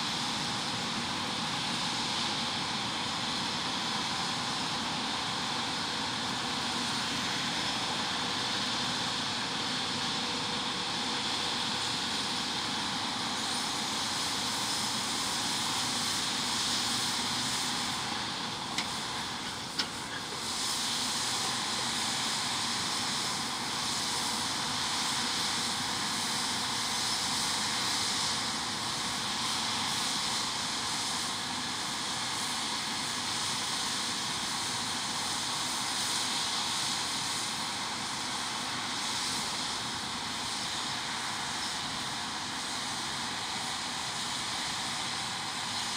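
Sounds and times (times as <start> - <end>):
combine harvester hissing: 0.0 - 45.9.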